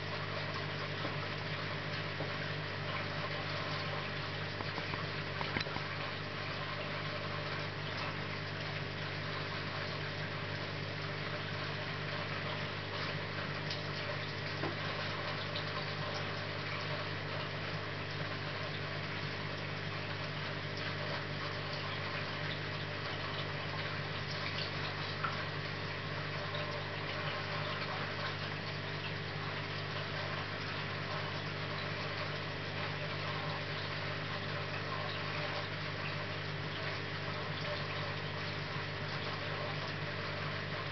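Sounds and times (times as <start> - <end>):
aquarium pump humming: 0.0 - 40.9
water trickling and bubbling: 0.0 - 40.9.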